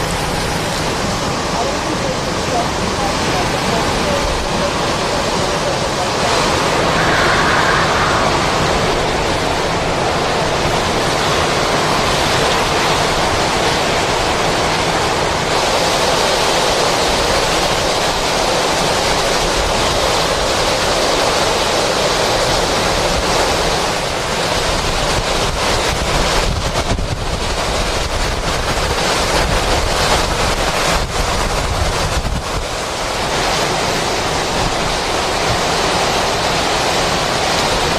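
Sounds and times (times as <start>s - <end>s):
rain: 0.0s - 37.9s
strong wind gusts: 0.0s - 37.9s.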